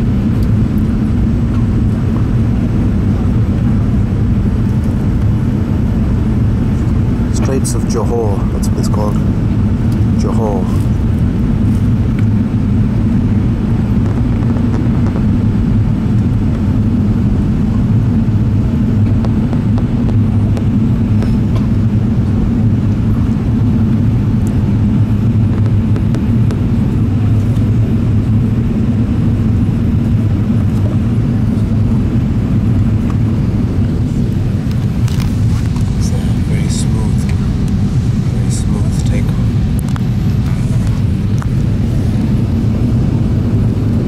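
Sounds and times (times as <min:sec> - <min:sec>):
airflow rushing past fuselage: 0:00.0 - 0:44.0
jet engines droning: 0:00.0 - 0:44.0.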